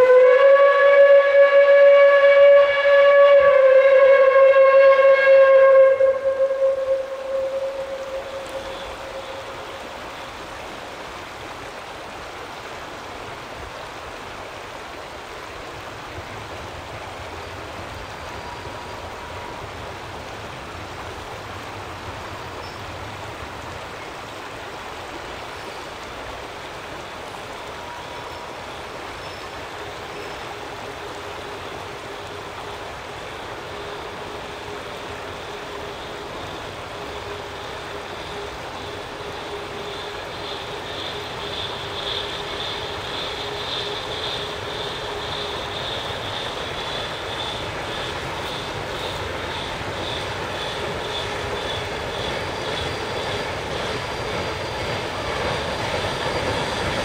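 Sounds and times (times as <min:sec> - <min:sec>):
distant steam locomotive: 0:00.0 - 0:57.0
creek rushing over rocks: 0:05.4 - 0:57.0.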